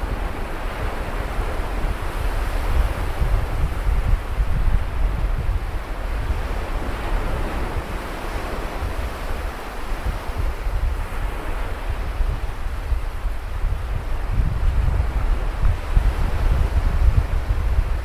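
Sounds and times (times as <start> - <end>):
waves washing on a beach: 0.0 - 18.0
wind rumbling on microphone: 0.0 - 18.0.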